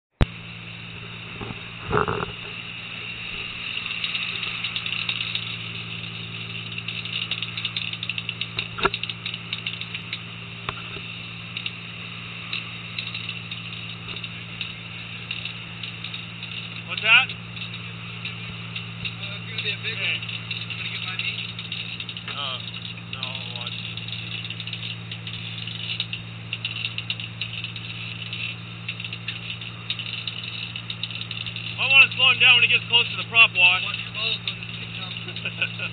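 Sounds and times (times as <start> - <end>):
boat engine humming: 0.2 - 35.9
ratchet-like clicking of line wheel: 3.2 - 11.8, 12.4 - 35.9.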